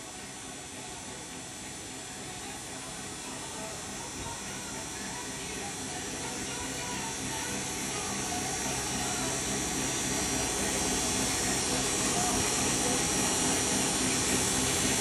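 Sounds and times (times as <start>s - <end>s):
machine hum and hiss: 0.0s - 15.0s.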